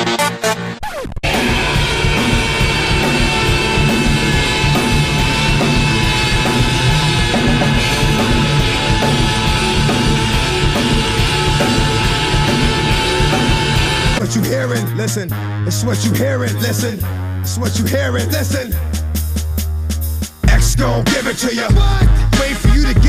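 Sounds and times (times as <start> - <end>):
electronic dance music: 0.0 - 23.0
heavy metal music: 0.0 - 23.0.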